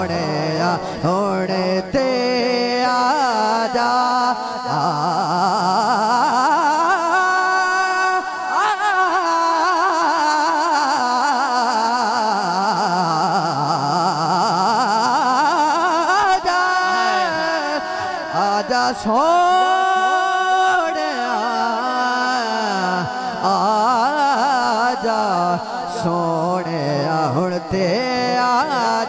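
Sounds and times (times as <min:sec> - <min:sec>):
man singing melismatic passage: 0:00.0 - 0:29.0.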